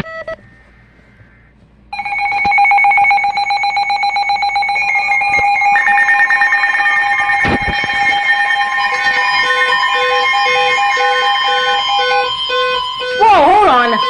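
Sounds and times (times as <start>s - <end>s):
rapid pulsing electronic tones: 0.0s - 14.0s
electronic tone: 1.9s - 14.0s.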